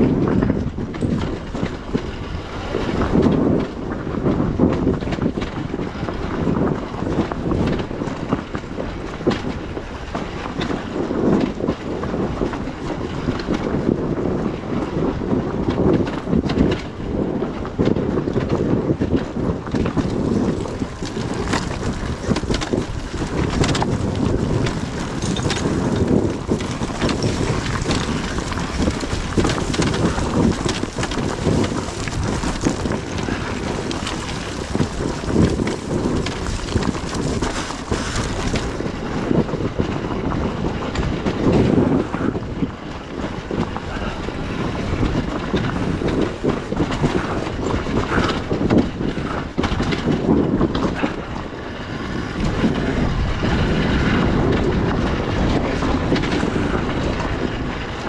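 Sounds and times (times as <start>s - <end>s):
rough-ground rattle: 0.0s - 58.0s
wind buffeting microphone: 0.0s - 58.0s.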